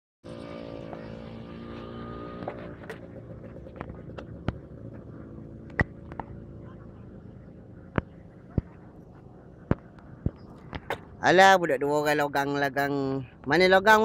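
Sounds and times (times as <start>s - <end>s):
engine humming: 0.2s - 13.9s.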